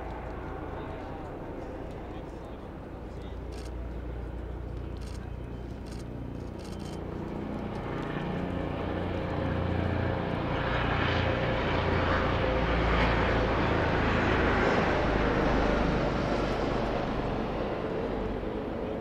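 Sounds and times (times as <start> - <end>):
low engine-like rumble: 0.0 - 19.0.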